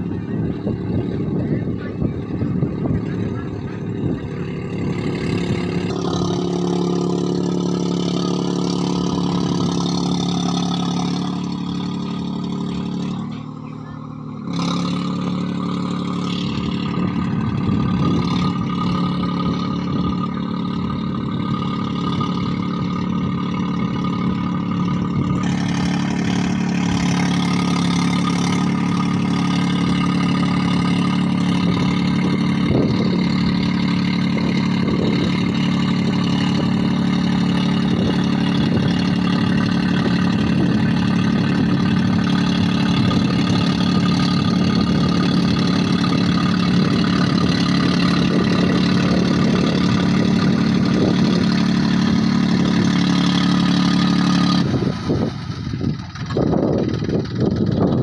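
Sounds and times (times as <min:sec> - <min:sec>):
tractor engine open exhaust: 0:00.0 - 0:58.0.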